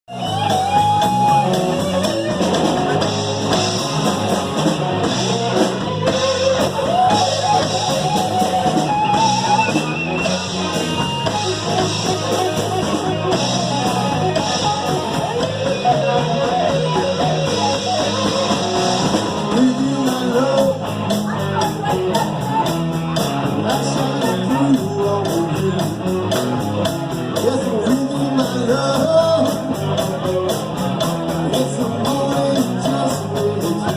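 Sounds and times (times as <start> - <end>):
rock music: 0.0 - 33.9.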